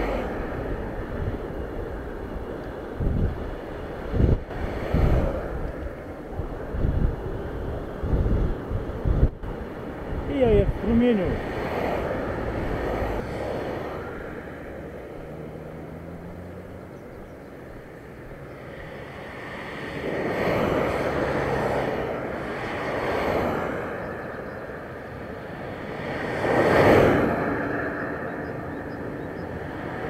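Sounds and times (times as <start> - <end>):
vehicles passing by: 0.0 - 30.0
wind and road noise: 0.0 - 30.0.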